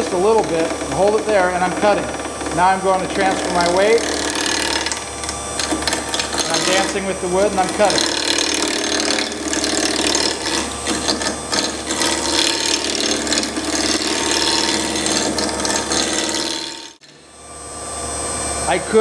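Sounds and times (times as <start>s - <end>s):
gouge cutting wood on lathe: 0.0s - 17.3s.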